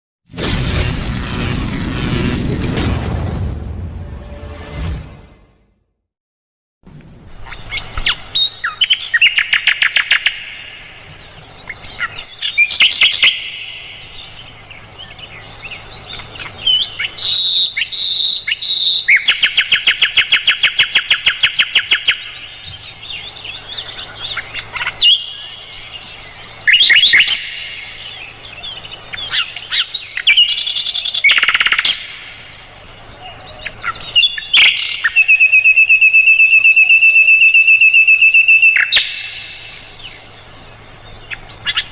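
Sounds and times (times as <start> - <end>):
flycatcher singing: 7.5 - 41.9.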